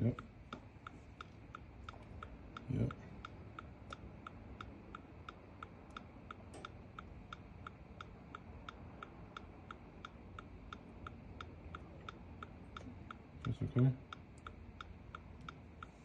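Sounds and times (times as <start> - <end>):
hazard-light indicator ticking: 0.0 - 16.0.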